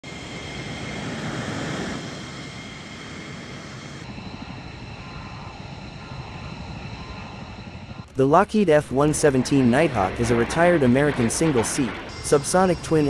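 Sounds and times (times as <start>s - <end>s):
faint high whine: 0.0s - 13.0s
jet engines rumbling: 0.0s - 13.0s.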